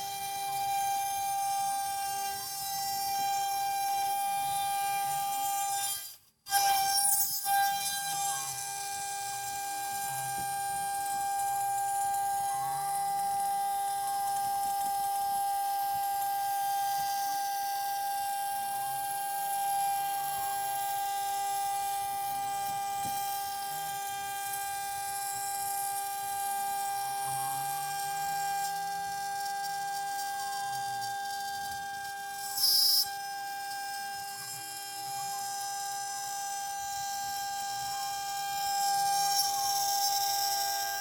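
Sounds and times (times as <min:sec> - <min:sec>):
faint gliding machine whine: 0:00.0 - 0:41.0
router spindle whining: 0:00.0 - 0:41.0.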